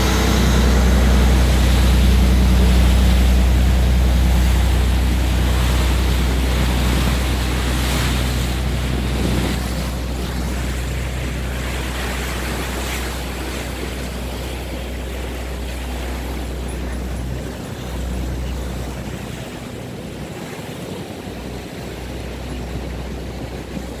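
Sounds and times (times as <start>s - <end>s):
choppy water rushing: 0.0s - 24.0s
wind buffeting microphone: 0.0s - 24.0s.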